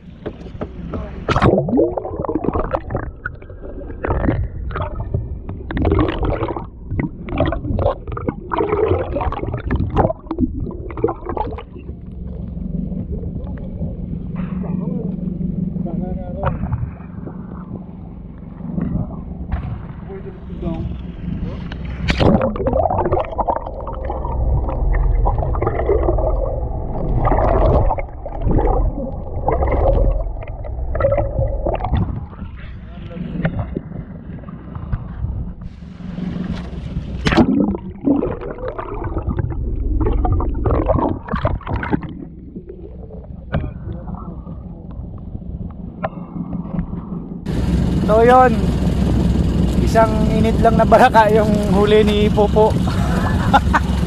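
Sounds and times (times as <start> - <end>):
low rumble: 0.0 - 54.0
muffled underwater gurgling: 0.0 - 54.0.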